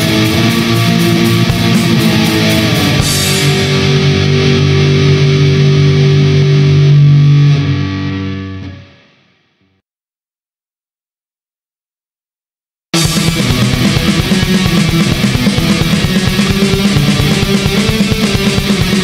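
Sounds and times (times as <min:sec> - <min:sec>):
black metal with distorted guitar: 0:00.0 - 0:09.4, 0:13.0 - 0:19.0.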